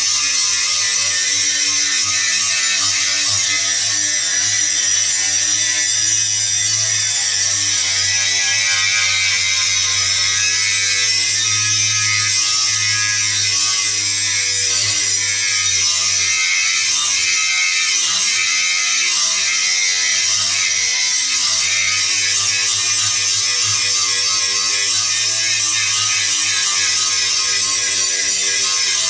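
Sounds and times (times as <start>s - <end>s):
angle grinder grinding steel: 0.0s - 29.0s.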